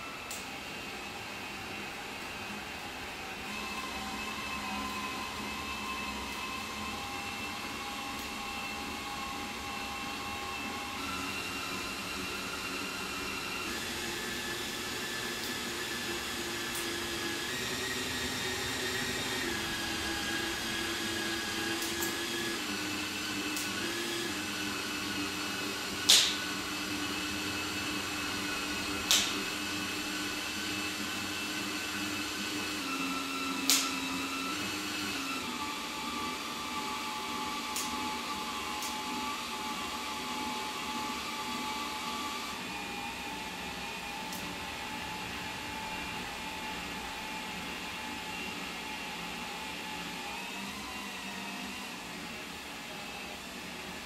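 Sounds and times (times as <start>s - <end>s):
cordless drill whining: 0.0s - 54.0s.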